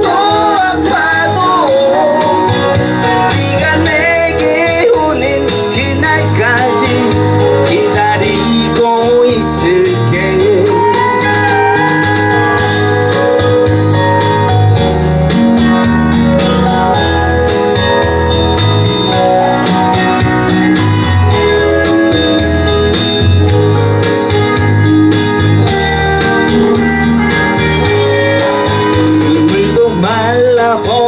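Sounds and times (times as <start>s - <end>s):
instrumental band music: 0.0s - 31.0s.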